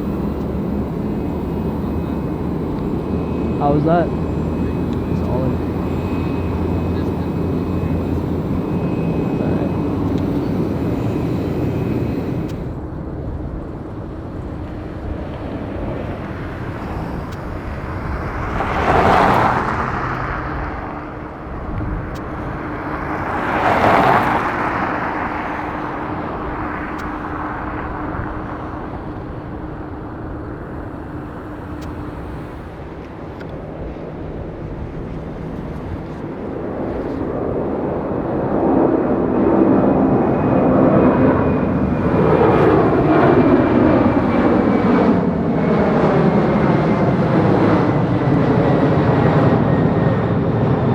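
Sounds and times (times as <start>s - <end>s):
jet engines rumbling: 0.0s - 50.9s.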